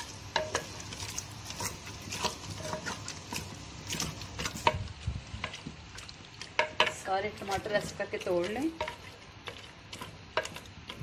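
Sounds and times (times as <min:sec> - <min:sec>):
wooden spoon scraping clay pot: 0:00.0 - 0:11.0.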